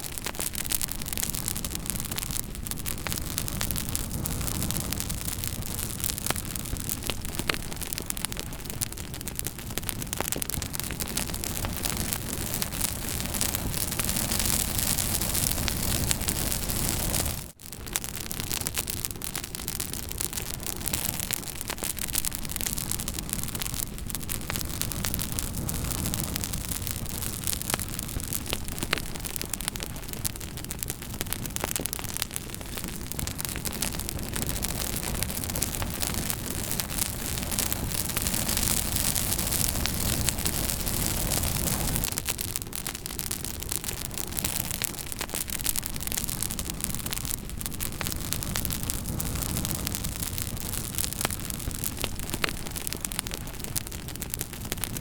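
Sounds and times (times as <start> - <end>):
campfire flames crackling: 0.0 - 55.0.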